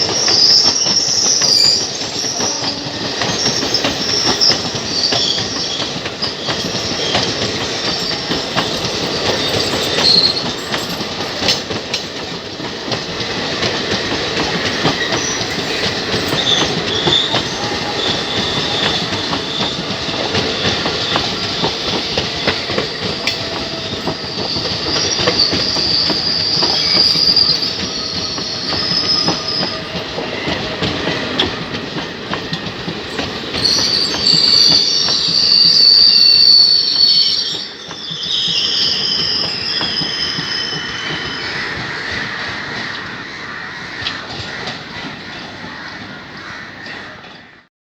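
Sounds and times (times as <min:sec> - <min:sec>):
train brakes squealing: 0:00.0 - 0:13.5, 0:14.1 - 0:43.0
train rumble and clatter: 0:00.0 - 0:47.7.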